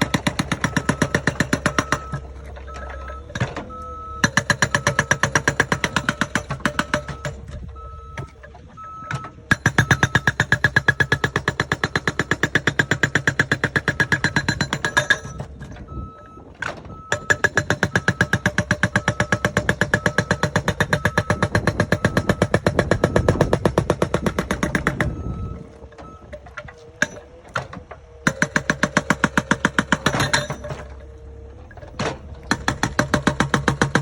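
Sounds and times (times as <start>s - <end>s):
electronic warning beeps: 0.0s - 27.2s
diesel engine knocking: 0.0s - 34.0s.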